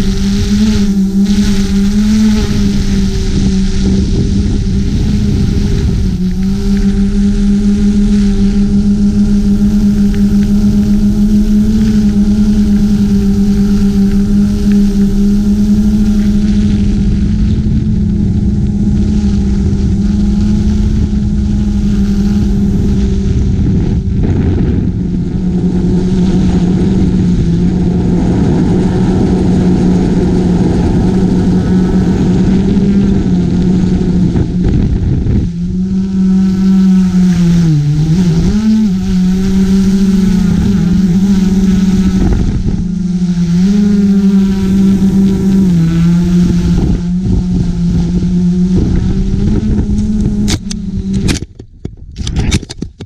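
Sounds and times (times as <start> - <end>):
drone propellers humming: 0.0 - 53.0
wind rush: 0.0 - 53.0.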